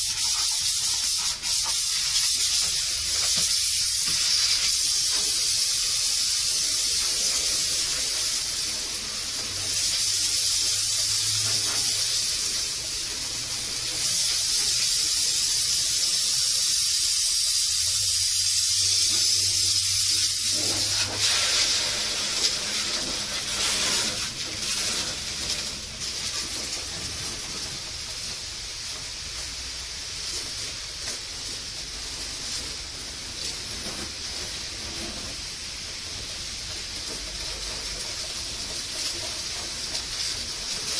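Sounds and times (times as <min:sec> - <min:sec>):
hose water jet spraying metal: 0:00.0 - 0:40.9.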